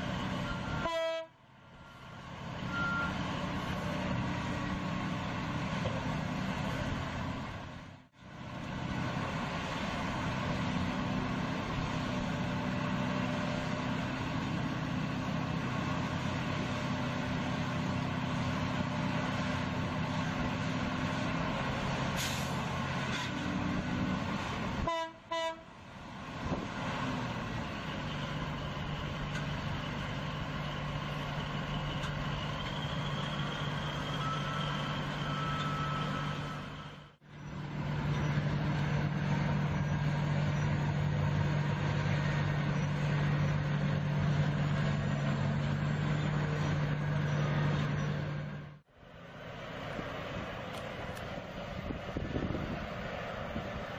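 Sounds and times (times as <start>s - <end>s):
heavy machinery engine hum: 0.0s - 53.9s.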